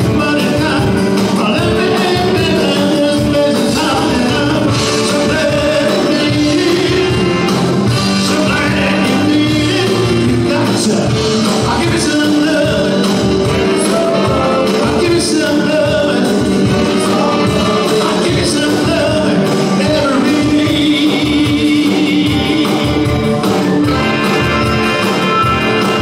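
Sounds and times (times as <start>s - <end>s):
live band playing: 0.0s - 26.0s
steady drum beat: 0.0s - 26.0s.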